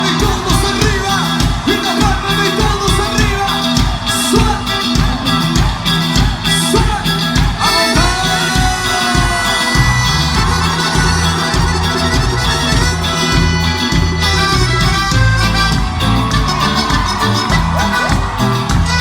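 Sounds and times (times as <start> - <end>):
driving drum beat: 0.0 - 19.0
instrumental band music: 0.0 - 19.0.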